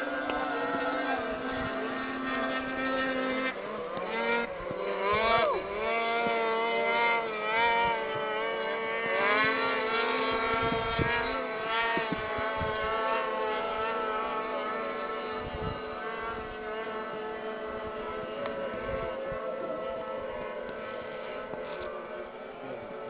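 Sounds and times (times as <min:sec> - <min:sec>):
snowmobile engines whining: 0:00.0 - 0:23.0.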